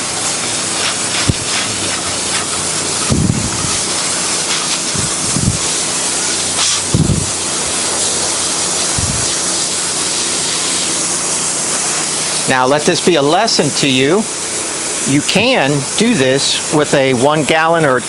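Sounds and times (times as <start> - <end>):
pressure washer spraying water: 0.0 - 18.0.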